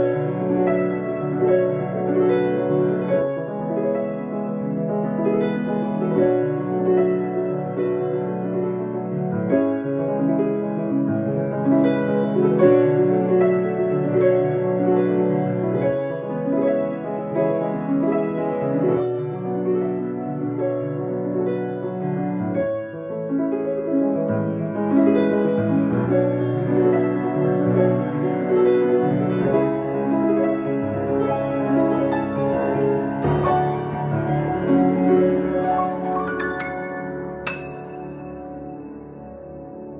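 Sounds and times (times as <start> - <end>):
solo piano chords and melody: 0.0 - 39.9.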